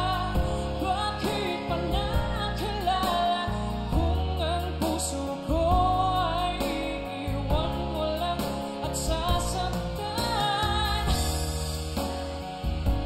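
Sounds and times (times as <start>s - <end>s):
live band playing pop ballad: 0.0s - 13.0s.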